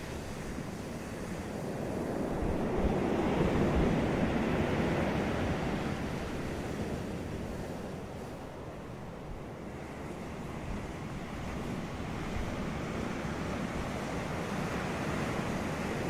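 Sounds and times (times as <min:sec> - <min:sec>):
low rumble of surf: 0:00.0 - 0:16.0.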